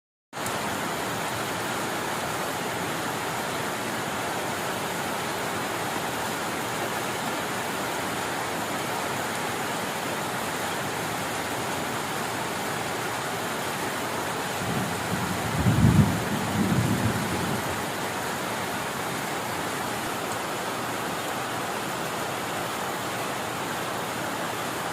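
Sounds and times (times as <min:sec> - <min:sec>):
steady rain falling: 0:00.4 - 0:24.9.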